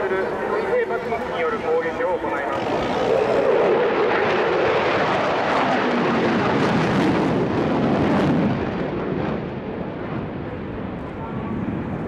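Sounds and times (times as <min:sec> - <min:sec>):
jet fighters roaring overhead: 0:00.0 - 0:12.0.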